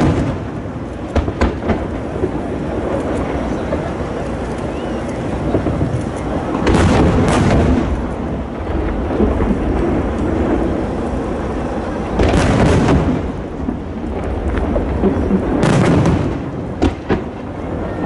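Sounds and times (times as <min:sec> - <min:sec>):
continuous rolling rumble: 0:00.0 - 0:18.0
fireworks booming: 0:00.0 - 0:18.0.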